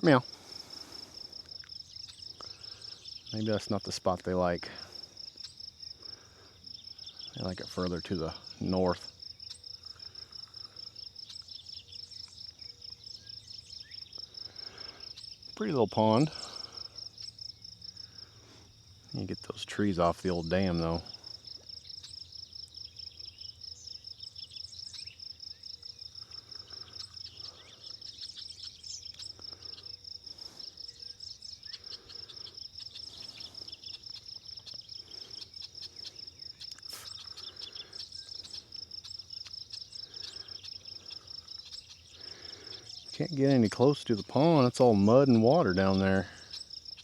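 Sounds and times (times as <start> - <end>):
faint bird chirps: 0.0 - 47.0
insects trilling: 0.0 - 47.0.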